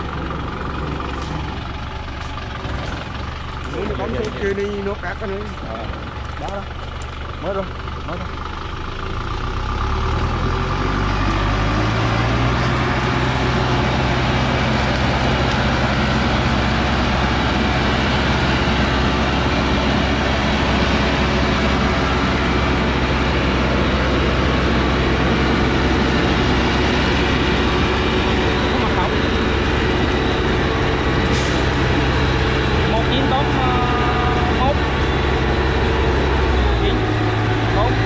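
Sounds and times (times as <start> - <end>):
diesel truck engine revving: 0.0 - 38.0.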